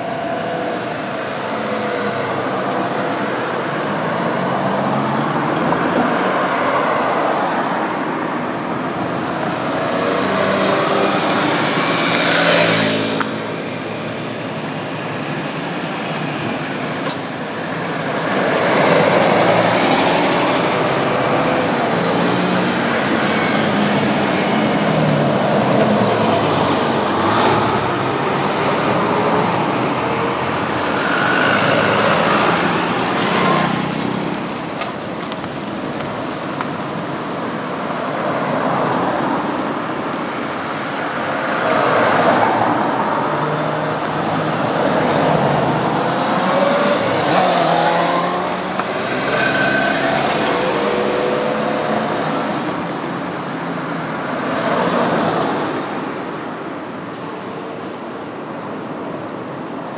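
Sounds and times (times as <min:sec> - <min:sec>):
bus passing: 0:00.0 - 0:59.9
cars passing: 0:00.0 - 0:59.9.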